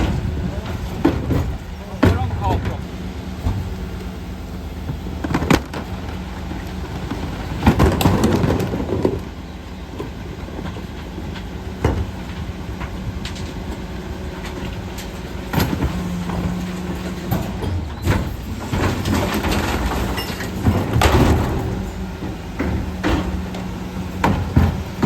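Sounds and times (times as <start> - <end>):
refuse truck engine running: 0.0 - 25.0.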